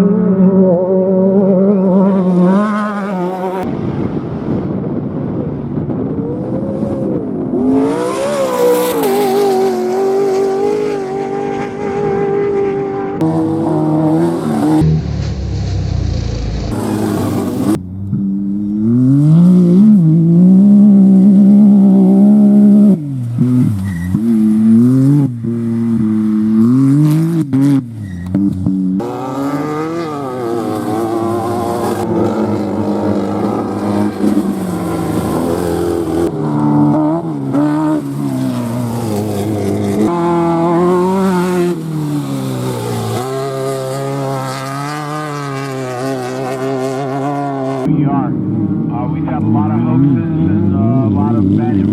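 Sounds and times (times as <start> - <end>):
race vehicle engines revving: 0.0 - 4.6, 5.5 - 51.9.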